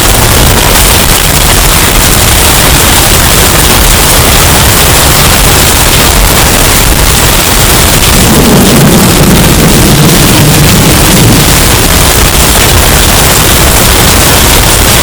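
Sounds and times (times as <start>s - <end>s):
deep rumble: 0.0s - 15.0s
distorted wind and rain roar: 0.0s - 15.0s.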